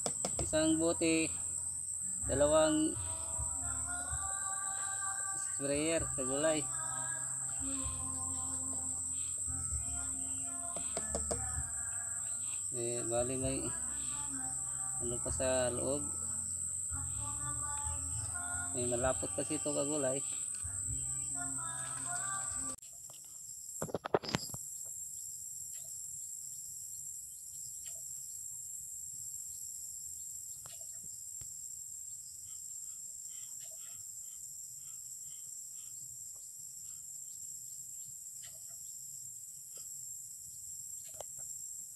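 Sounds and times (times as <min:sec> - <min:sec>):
faint bird chirps: 0:00.0 - 0:28.7, 0:29.4 - 0:41.6
high-pitched insect chorus: 0:00.0 - 0:41.9.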